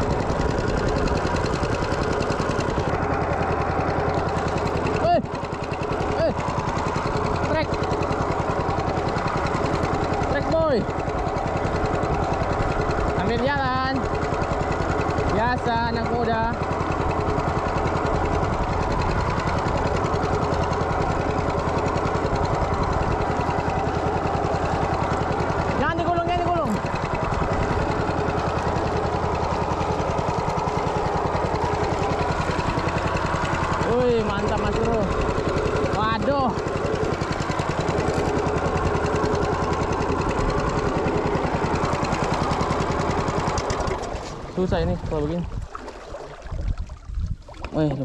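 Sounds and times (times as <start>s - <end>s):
small boat engine throbbing: 0.0s - 48.0s.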